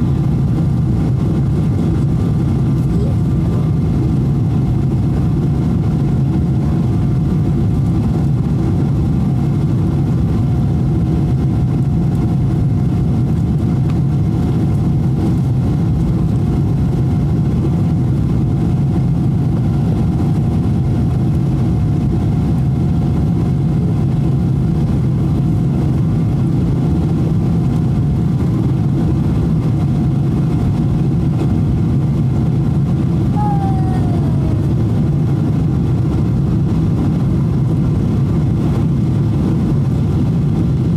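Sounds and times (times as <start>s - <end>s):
airplane cabin engine roar: 0.0s - 40.9s.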